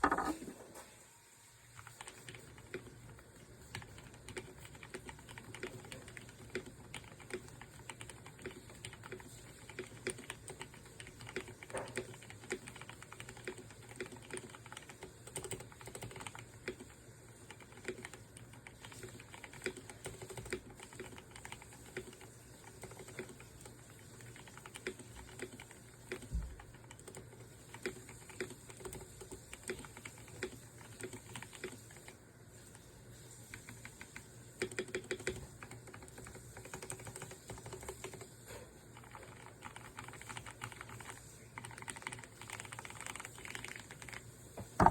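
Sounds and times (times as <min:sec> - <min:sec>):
typing on mechanical keyboard: 0:01.8 - 0:32.2, 0:33.4 - 0:44.9.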